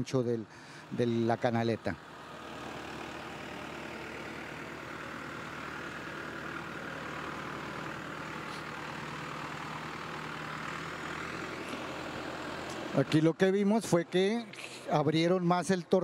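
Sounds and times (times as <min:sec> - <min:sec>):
tractor engine running under load: 0:00.5 - 0:16.0.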